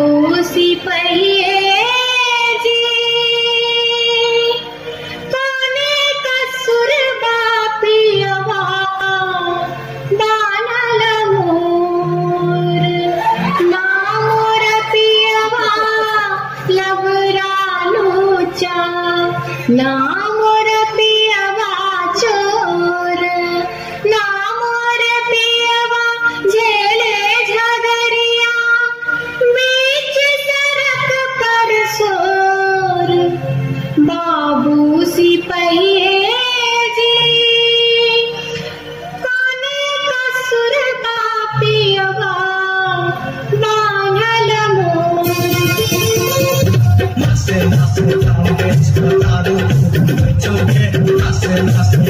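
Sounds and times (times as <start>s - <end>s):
woman singing folk song: 0.0s - 4.6s, 5.3s - 33.4s, 34.0s - 45.4s.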